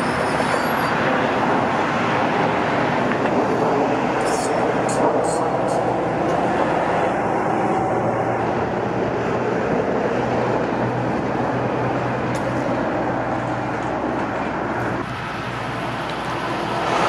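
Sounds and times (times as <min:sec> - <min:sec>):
motor vehicles rumbling: 0:00.0 - 0:17.0.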